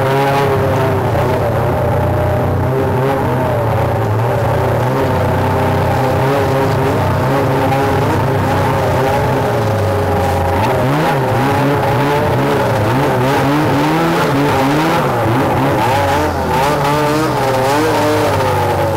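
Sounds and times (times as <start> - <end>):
snowmobile engine idling and revving: 0.0 - 18.9.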